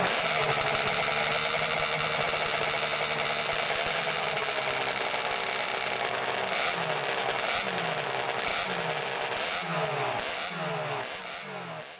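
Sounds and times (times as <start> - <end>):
two-stroke engines idling: 0.0 - 11.9.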